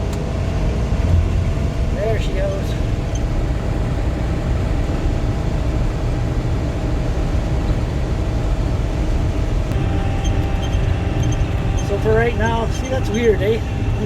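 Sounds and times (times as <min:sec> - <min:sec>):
swather engine droning: 0:00.0 - 0:14.0.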